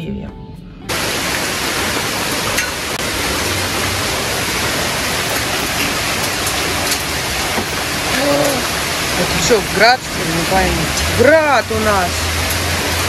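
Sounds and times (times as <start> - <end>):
heavy rain hiss: 0.9 - 13.0.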